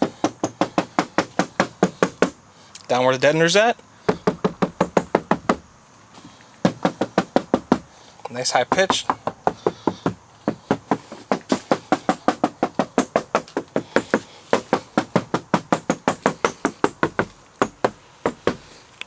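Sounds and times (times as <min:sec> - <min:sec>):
knuckles knocking on sheet metal: 0:00.0 - 0:02.4, 0:04.0 - 0:05.7, 0:06.6 - 0:07.9, 0:08.7 - 0:18.7.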